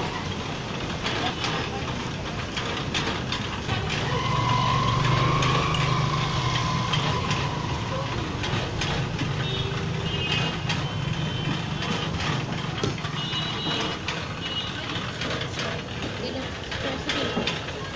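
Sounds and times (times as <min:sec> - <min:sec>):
juice machine motor humming: 0:00.0 - 0:17.9.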